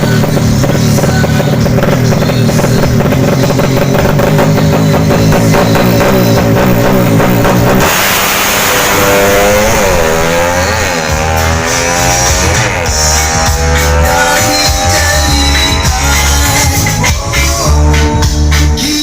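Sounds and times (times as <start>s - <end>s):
rock music with steady beat: 0.0s - 19.0s.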